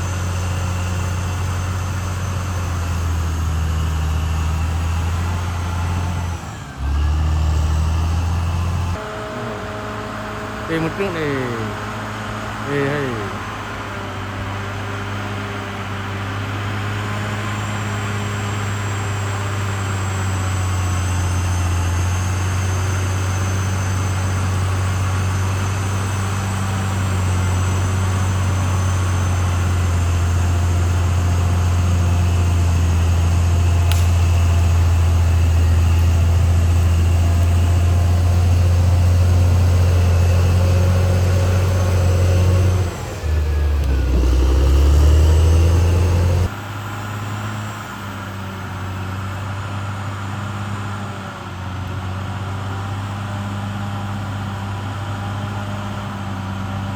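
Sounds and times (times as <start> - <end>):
bulldozer diesel engine drone: 0.0 - 56.9.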